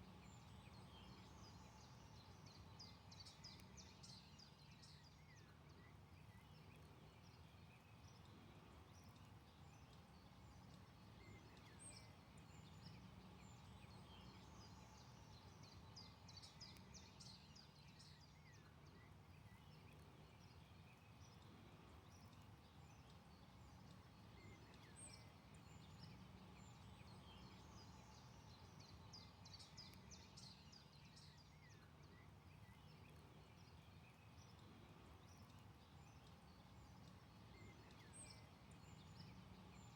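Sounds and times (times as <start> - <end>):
songbirds singing: 0.1 - 39.9.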